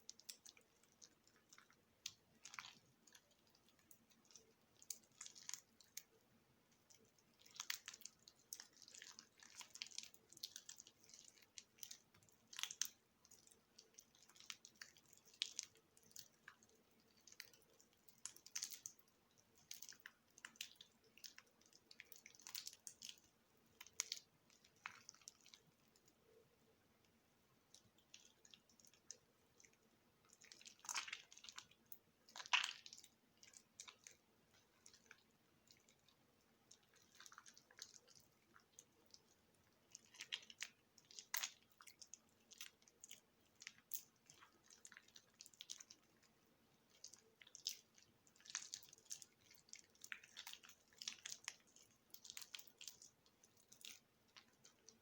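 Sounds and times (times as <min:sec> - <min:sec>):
wet soap crackling and squishing: 0:00.0 - 0:55.0.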